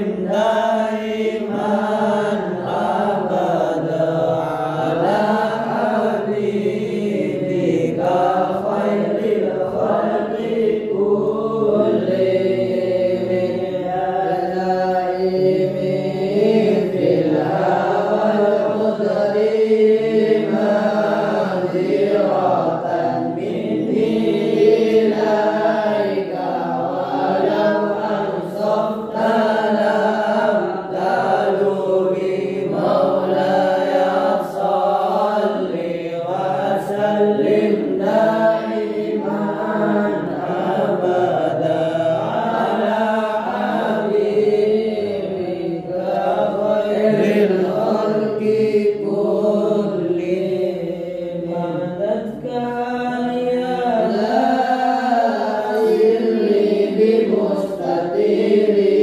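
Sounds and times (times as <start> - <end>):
men and boys chanting: 0.0 - 59.0.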